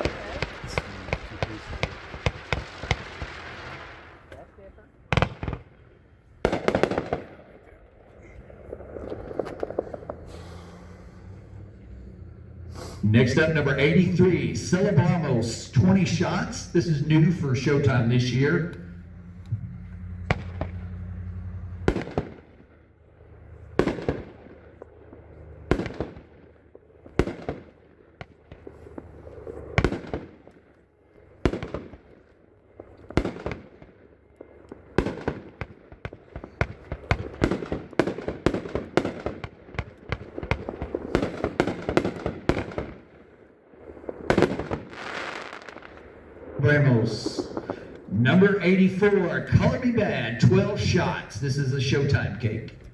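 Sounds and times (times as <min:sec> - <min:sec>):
loud firework bangs: 0:00.0 - 0:04.4, 0:05.1 - 0:07.6, 0:08.2 - 0:22.8, 0:23.6 - 0:30.6, 0:31.3 - 0:51.3
fireworks shots and crackling: 0:00.0 - 0:11.8, 0:12.4 - 0:52.9.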